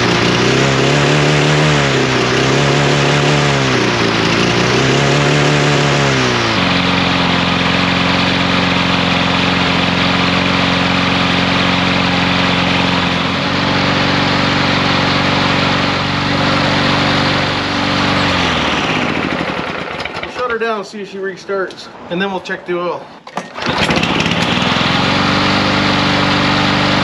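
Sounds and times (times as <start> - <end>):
lawn mower engine running: 0.0 - 20.9, 23.2 - 27.0.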